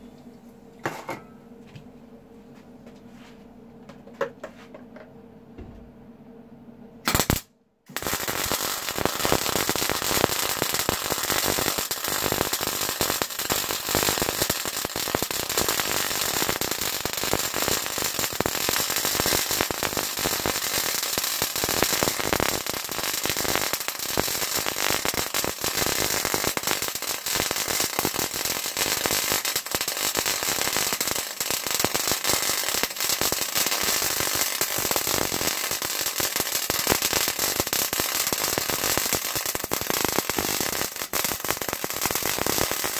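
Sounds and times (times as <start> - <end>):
welding arc crackling: 7.1 - 42.9.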